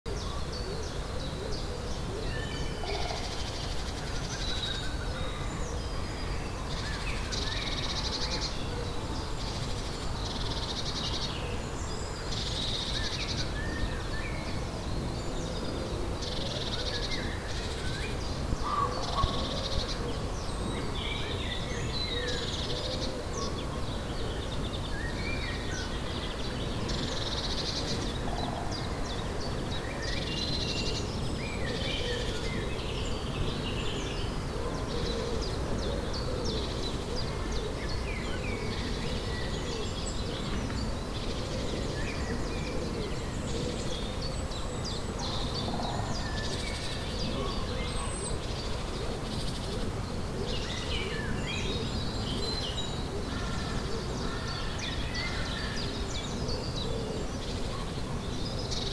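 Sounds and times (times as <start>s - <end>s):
birds chirping: 0.2s - 58.9s.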